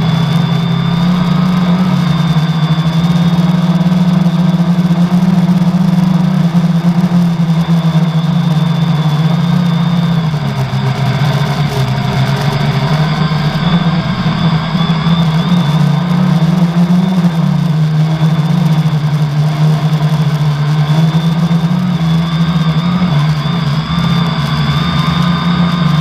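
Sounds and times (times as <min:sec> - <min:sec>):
quadcopter motors droning: 0:00.0 - 0:26.0.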